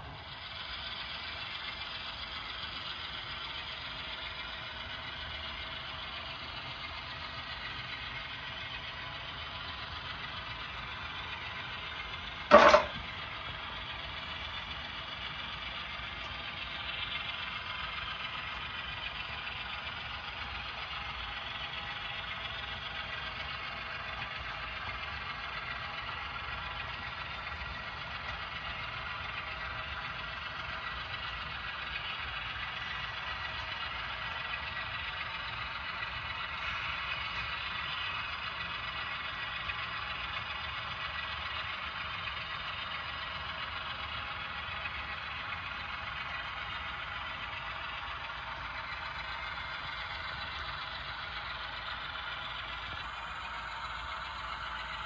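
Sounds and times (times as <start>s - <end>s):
model locomotive engine sound: 0.0s - 55.0s
model train rolling: 0.0s - 55.0s.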